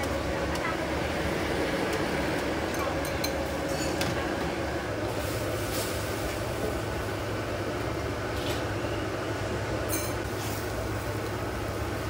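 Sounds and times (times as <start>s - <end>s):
low rumble of cooking area: 0.0s - 12.0s.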